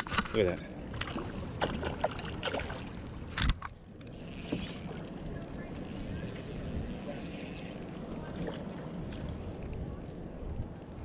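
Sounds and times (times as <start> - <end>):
rumbling water: 0.0 - 11.0.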